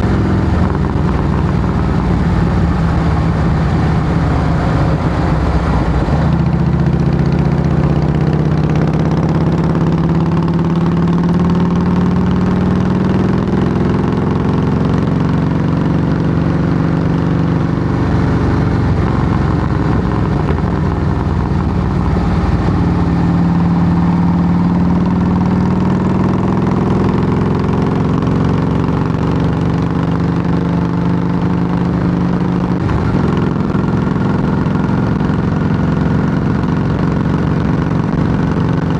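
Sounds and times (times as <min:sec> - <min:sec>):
motorcycle engine revving loud: 0:00.0 - 0:38.9.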